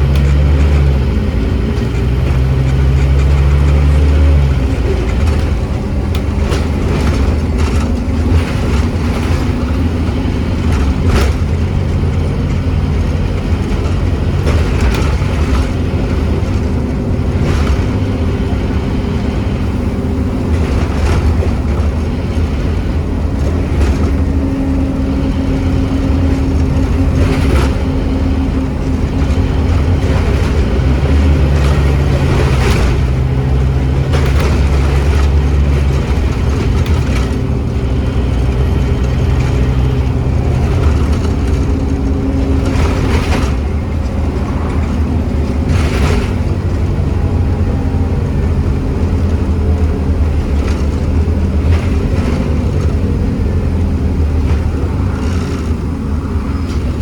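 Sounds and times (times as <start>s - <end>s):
bus body rattling: 0.0s - 57.0s
bus diesel engine running: 0.0s - 57.0s.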